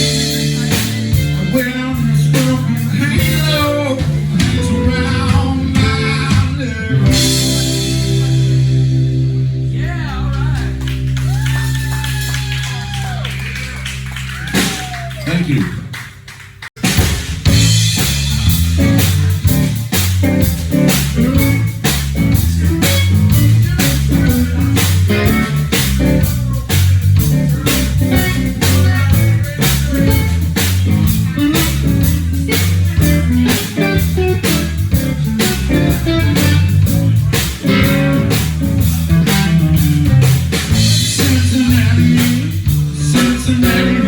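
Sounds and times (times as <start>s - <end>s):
guitar: 0.0s - 15.6s, 17.4s - 44.0s
bass guitar: 0.0s - 44.0s
drum kit beat: 0.0s - 44.0s.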